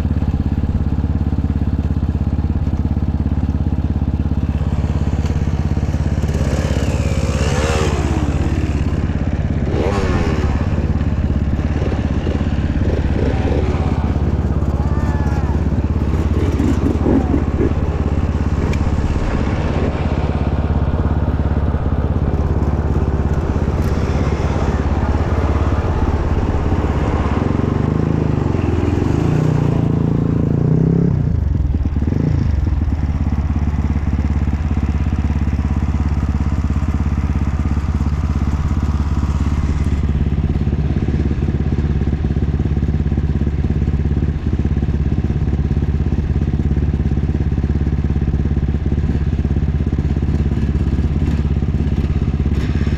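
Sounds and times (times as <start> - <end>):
dirt bike engine running: 0.0 - 52.9.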